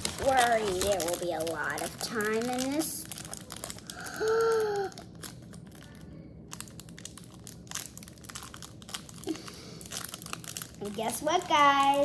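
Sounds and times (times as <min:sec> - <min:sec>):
toy packets crinkling and tearing: 0:00.0 - 0:12.0.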